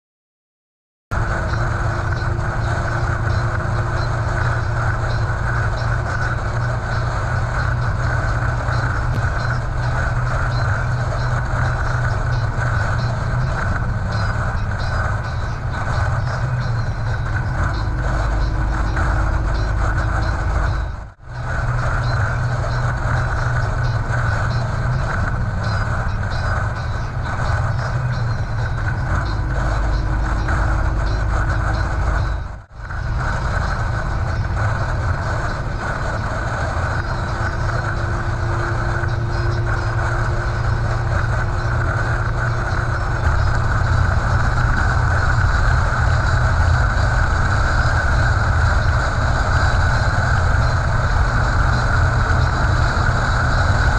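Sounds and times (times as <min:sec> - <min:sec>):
road rumble: 0:01.1 - 0:53.9
truck diesel engine drone: 0:01.1 - 0:53.9.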